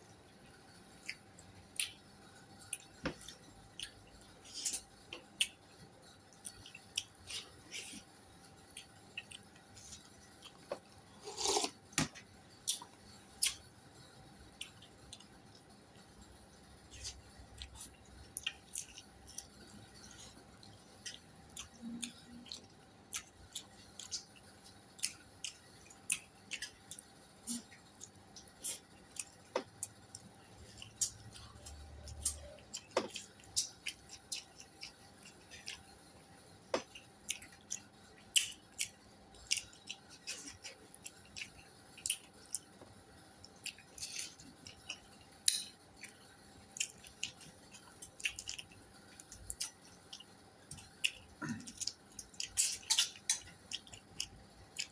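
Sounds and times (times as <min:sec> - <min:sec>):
person chewing food: 0:00.9 - 0:54.9.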